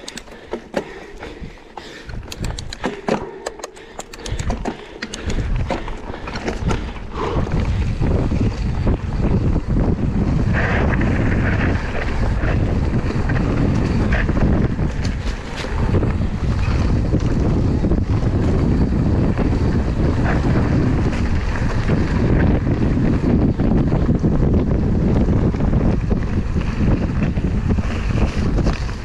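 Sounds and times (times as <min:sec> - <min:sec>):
bike clicks and rattles: 0:00.0 - 0:29.0
wind buffeting microphone: 0:00.0 - 0:29.0
tyres rumbling on dirt: 0:04.2 - 0:29.0.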